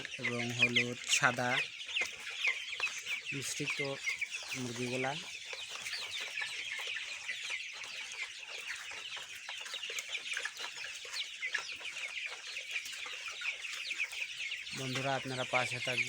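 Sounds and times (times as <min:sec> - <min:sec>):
chickens peeping and clucking: 0:00.0 - 0:16.0.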